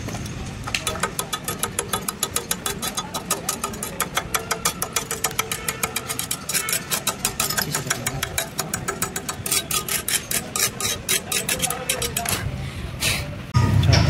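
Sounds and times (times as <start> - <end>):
metal-on-metal tapping: 0.7 - 12.4.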